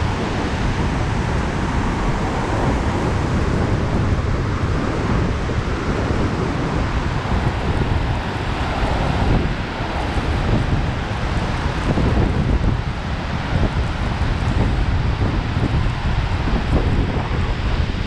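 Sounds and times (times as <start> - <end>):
waterfall and rapids rushing: 0.0 - 18.0.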